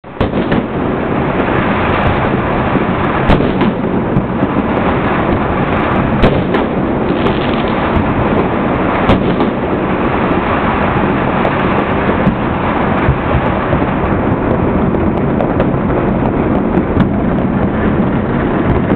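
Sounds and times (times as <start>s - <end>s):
fireworks crackling: 0.0s - 18.9s
loud firework bangs: 0.0s - 18.9s.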